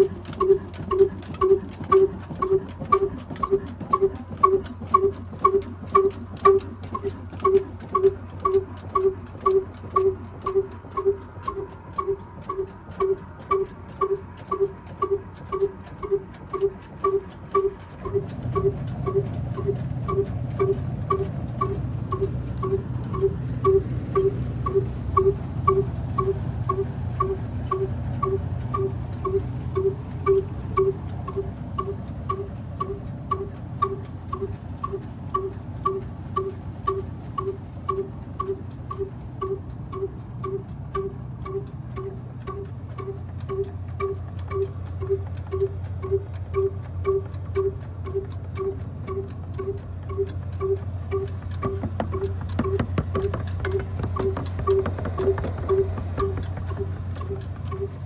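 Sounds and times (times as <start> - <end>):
diesel engine running slowly: 0.0 - 58.0
steady low drone: 0.0 - 58.0.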